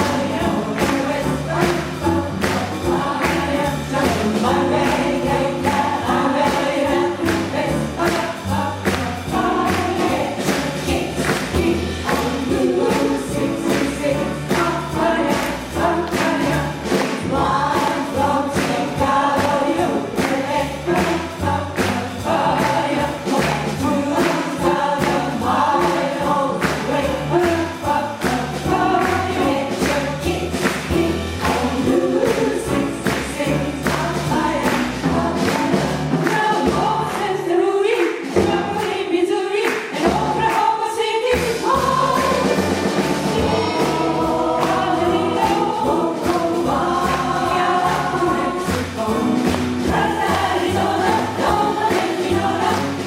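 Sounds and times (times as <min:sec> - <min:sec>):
bass: 0:00.0 - 0:37.5, 0:38.2 - 0:39.1, 0:39.9 - 0:40.7, 0:41.3 - 0:53.0
drums: 0:00.0 - 0:53.0
jazz chorus singing in harmony: 0:00.0 - 0:53.0
piano: 0:00.0 - 0:53.0.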